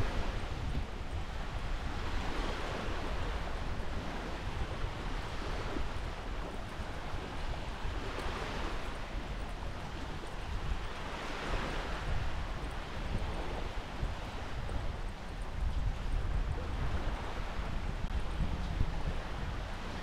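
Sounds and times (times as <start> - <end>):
waves washing onto beach: 0.0 - 20.0
wind rumbling on microphone: 0.0 - 20.0.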